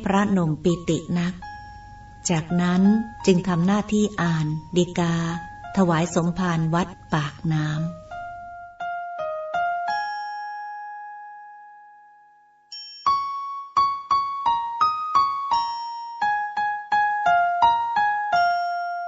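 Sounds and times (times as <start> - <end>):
slow keyboard melody: 0.0 - 19.0.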